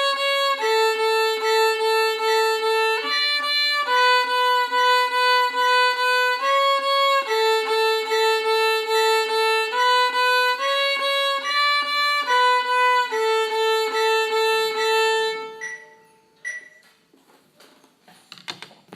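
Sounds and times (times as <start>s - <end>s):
violin melody: 0.0s - 15.7s.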